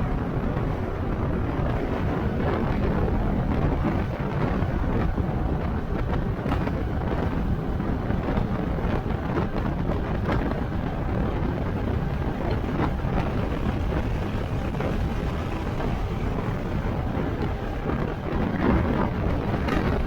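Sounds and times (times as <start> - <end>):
low rumbling noise: 0.0 - 20.0.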